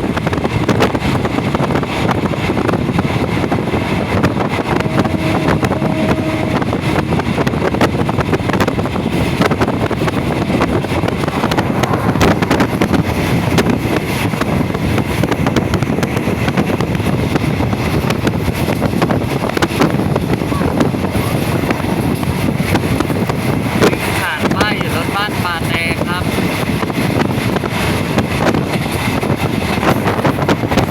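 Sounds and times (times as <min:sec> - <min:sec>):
train rumbling and rattling: 0:00.0 - 0:30.9
wind buffeting microphone: 0:00.0 - 0:30.9.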